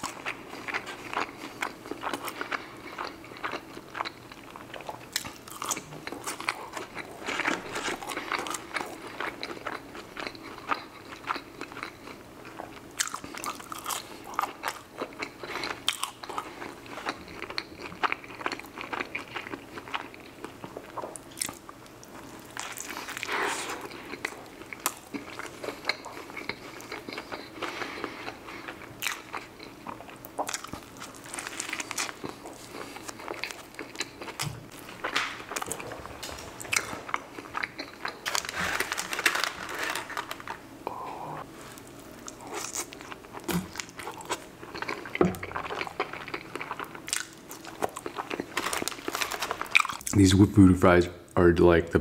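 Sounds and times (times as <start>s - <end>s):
chewing and biting food: 0.0s - 40.6s, 41.7s - 50.2s.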